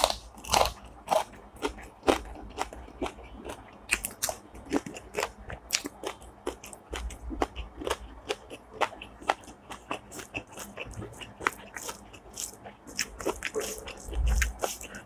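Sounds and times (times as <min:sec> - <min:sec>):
mouth clicks and crunches: 0:00.0 - 0:15.0
person chewing and biting: 0:00.0 - 0:15.0.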